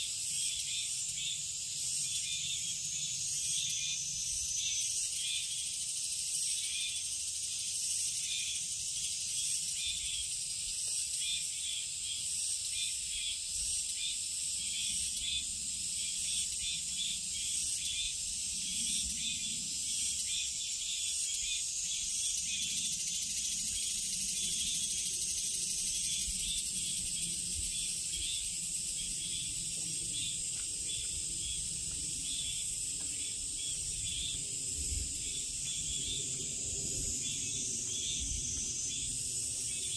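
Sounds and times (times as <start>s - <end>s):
pulsing insect chorus: 0.0s - 39.9s.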